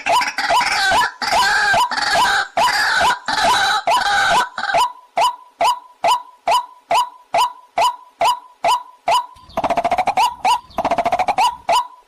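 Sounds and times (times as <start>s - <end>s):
bird harsh croaking calls: 0.0s - 12.0s.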